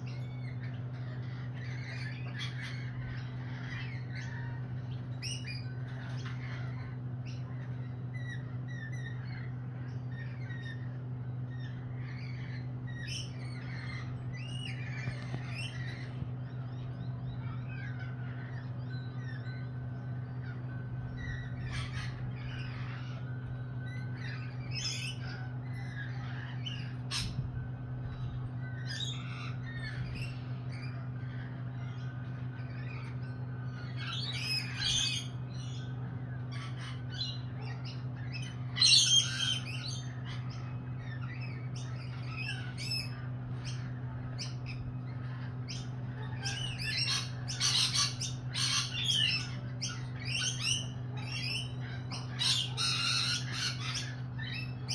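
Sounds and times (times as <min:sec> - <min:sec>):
parrots squawking and chattering: 0:00.0 - 0:54.9
steady low hum: 0:00.0 - 0:54.9.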